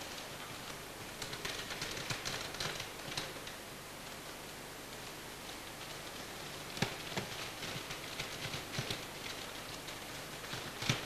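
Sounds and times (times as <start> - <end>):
faint low hum: 0.0 - 11.0
tape hiss: 0.0 - 11.0.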